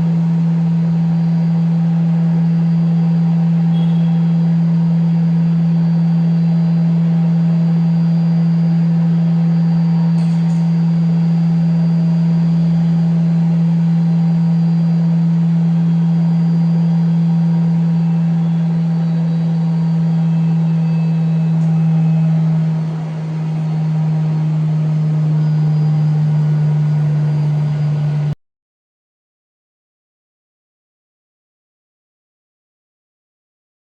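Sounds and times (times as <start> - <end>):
centrifuge humming: 0.0 - 28.4
faint high whine: 0.0 - 28.4.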